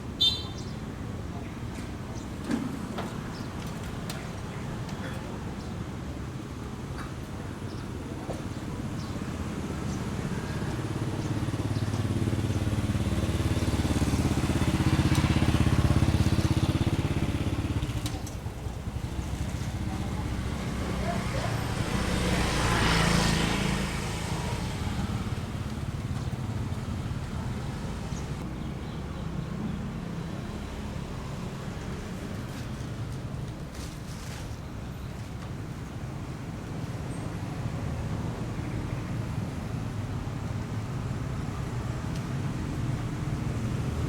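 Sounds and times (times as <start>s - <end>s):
vehicles passing by: 0.0s - 44.0s.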